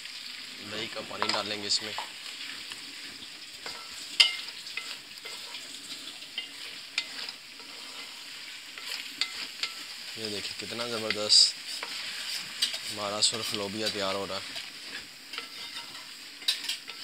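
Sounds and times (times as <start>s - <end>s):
food sizzling in a pan: 0.0s - 17.0s
wooden spatula scraping pan: 0.9s - 17.0s.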